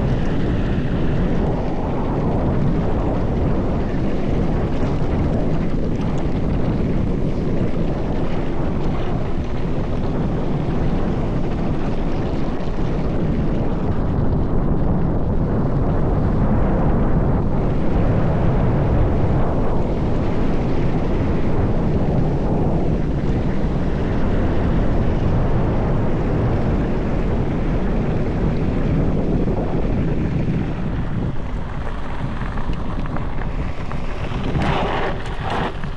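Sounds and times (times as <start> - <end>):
bike tyres rumbling on dirt: 0.0 - 35.9
wind buffeting microphone: 0.0 - 35.9.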